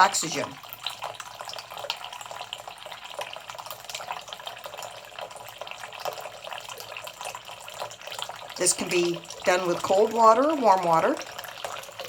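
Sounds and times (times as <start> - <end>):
faucet water running into sink: 0.0 - 12.0.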